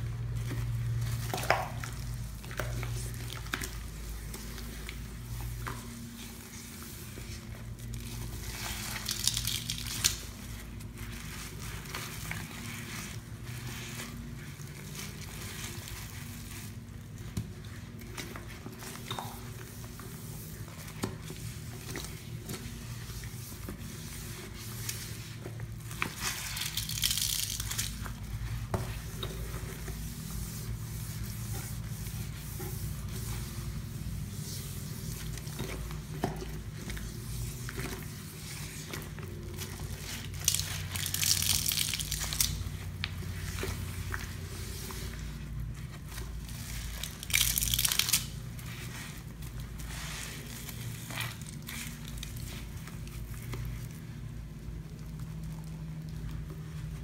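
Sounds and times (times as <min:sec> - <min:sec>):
sponge scrubbing sink with paste: 0:00.0 - 0:54.2.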